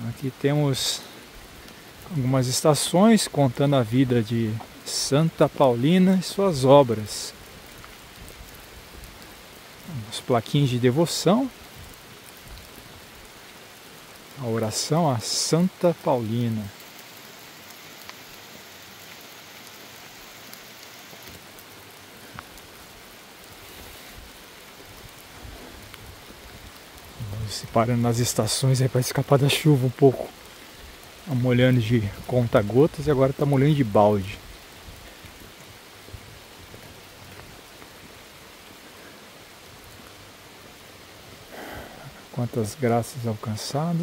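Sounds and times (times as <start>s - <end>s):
steady rain pattering: 0.0s - 44.0s.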